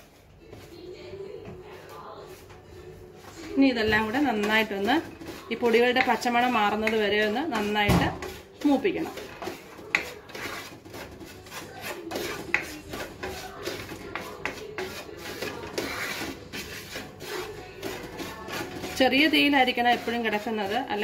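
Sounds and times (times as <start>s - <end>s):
spatula scraping in frying pan: 3.4s - 21.0s.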